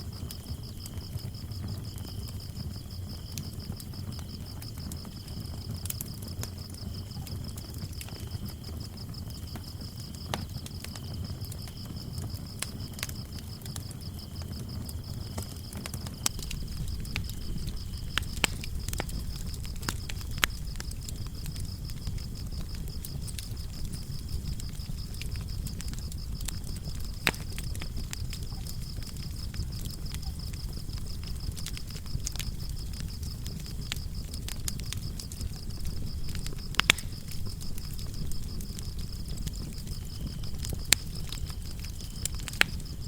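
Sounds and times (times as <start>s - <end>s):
cricket chirping in bursts: 0.0s - 43.0s
wood fire crackling and popping: 0.0s - 43.0s.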